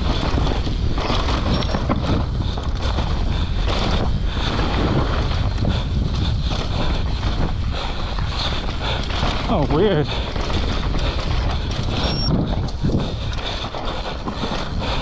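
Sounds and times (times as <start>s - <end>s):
bike knocks and rattles: 0.0s - 15.0s
wind on microphone: 0.0s - 15.0s.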